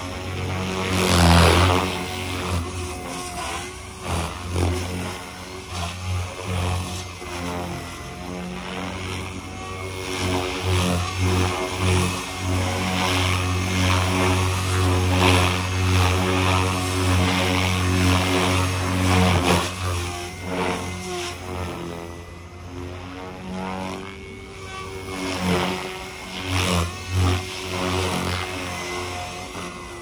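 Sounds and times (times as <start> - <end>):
rc helicopter rotor hum: 0.0 - 30.0.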